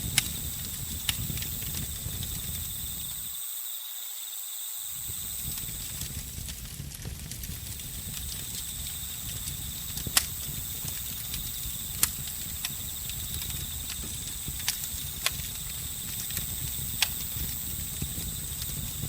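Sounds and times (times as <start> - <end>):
campfire crackling: 0.0 - 3.4, 4.8 - 19.0
crickets trilling: 0.0 - 19.0.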